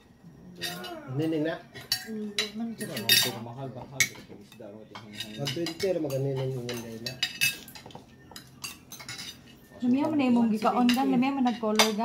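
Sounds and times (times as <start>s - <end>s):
cutlery clinking on ceramic plates: 0.6s - 12.0s.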